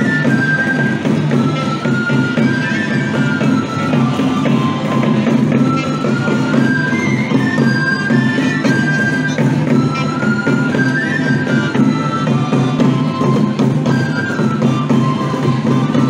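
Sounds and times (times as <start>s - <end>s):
woodwind street band music: 0.0s - 16.0s.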